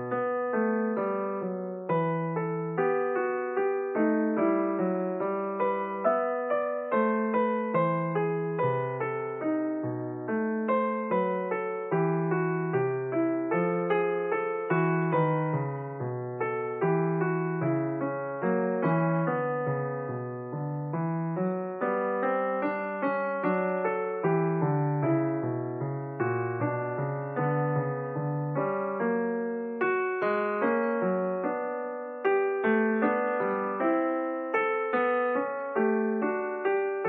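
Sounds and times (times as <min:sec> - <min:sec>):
slow solo piano piece: 0:00.0 - 0:37.0.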